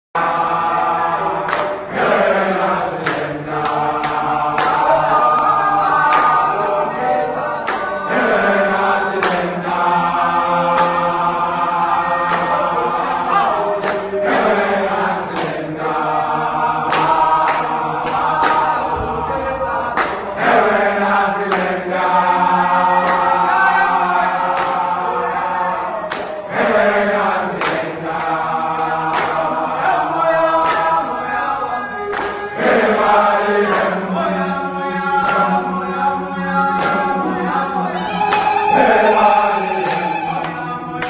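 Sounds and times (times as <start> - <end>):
group chanting: 0.2 - 41.0.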